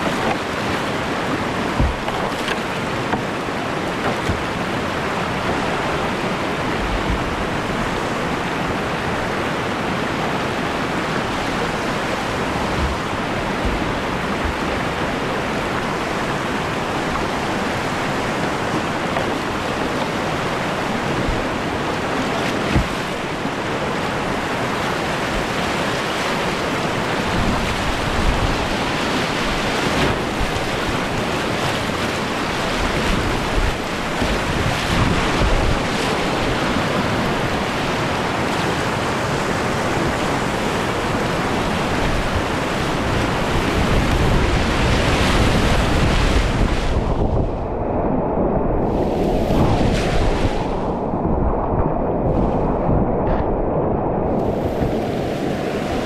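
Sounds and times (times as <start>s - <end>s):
whitewater rushing: 0.0s - 47.8s, 48.5s - 56.0s
wind buffeting microphone: 0.0s - 56.0s.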